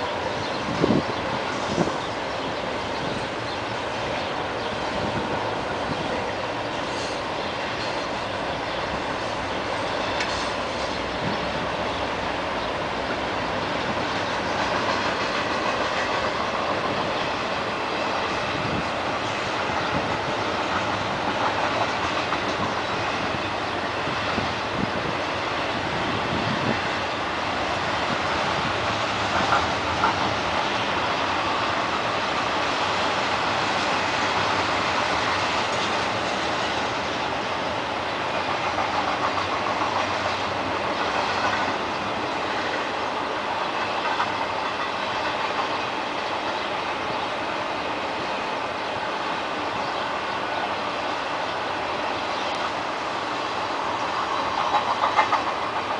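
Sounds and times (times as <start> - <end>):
wheels clicking over rail joints: 0.0 - 47.2, 52.3 - 55.9
freight train rumbling past: 0.0 - 55.9.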